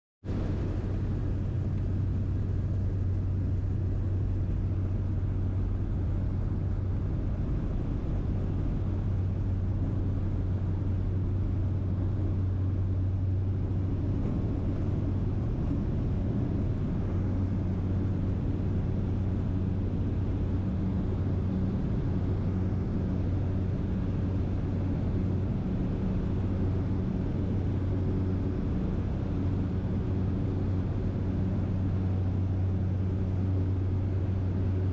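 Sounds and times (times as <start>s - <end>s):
aircraft cabin drone: 0.3s - 34.9s.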